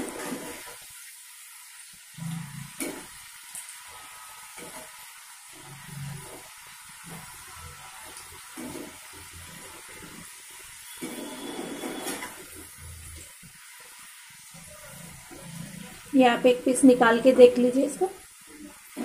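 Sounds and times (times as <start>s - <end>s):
fries sizzling in hot oil: 0.0s - 19.0s.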